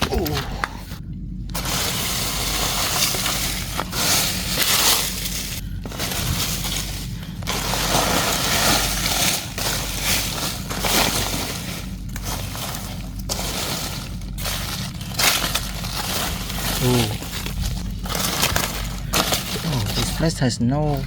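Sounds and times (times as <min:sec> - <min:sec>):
dry leaves crunching and rustling: 0:00.0 - 0:21.0.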